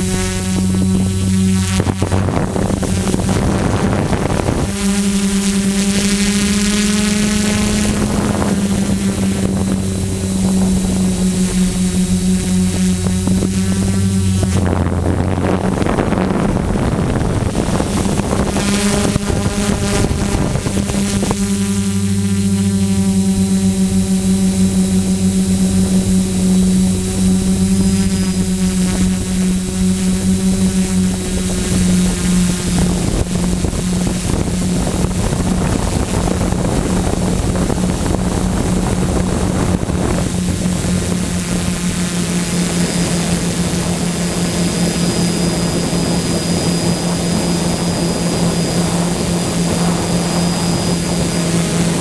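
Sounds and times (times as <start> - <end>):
quadcopter propellers droning: 0.0 - 52.0.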